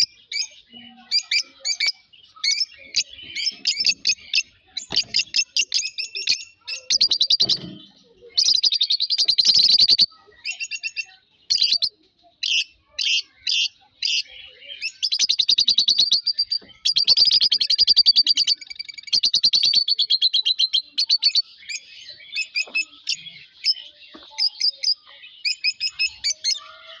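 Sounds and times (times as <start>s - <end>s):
songbird chirping and trilling: 0.0s - 27.0s.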